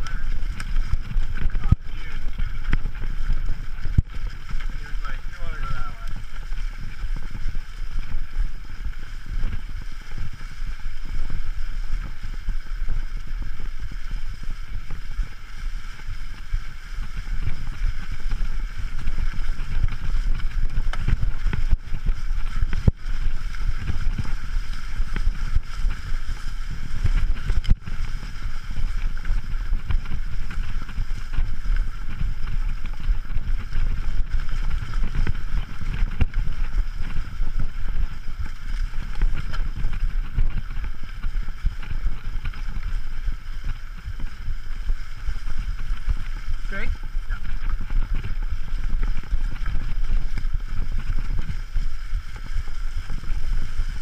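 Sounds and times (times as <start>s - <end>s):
bike rattling over ground: 0.0s - 54.0s
low riding rumble: 0.0s - 54.0s
wind buffeting microphone: 0.0s - 54.0s.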